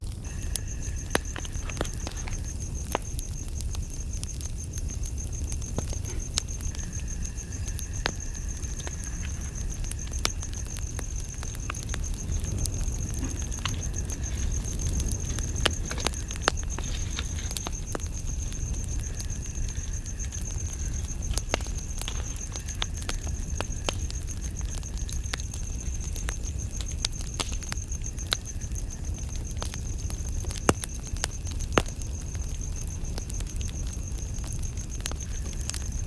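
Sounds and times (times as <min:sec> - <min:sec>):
campfire crackling and popping: 0:00.0 - 0:36.0
insect trilling: 0:00.0 - 0:36.0.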